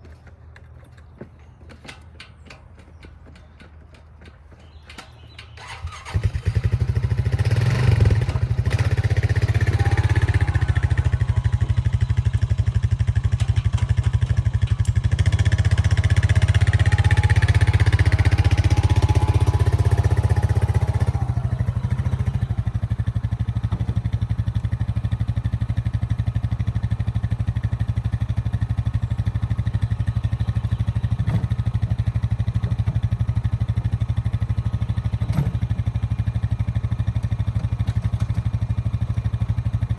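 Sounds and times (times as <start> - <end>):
quad bike engine running: 5.6 - 39.9.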